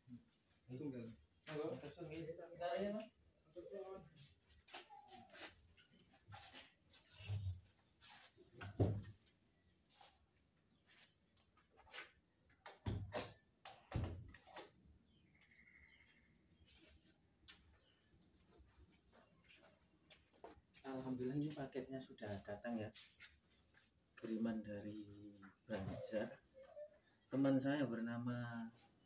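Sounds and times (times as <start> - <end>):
high-pitched insect chirring: 0.0 - 29.0.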